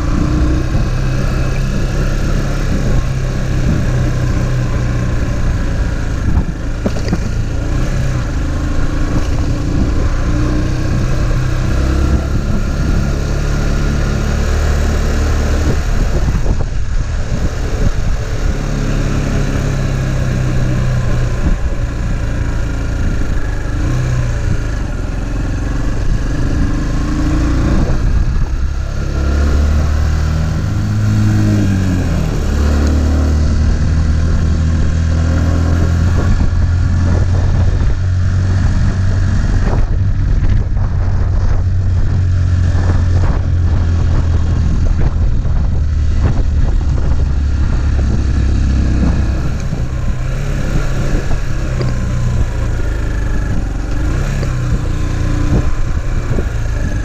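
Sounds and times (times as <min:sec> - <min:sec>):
motorcycle engine running: 0:00.0 - 0:57.0
steady rushing noise: 0:00.0 - 0:57.0.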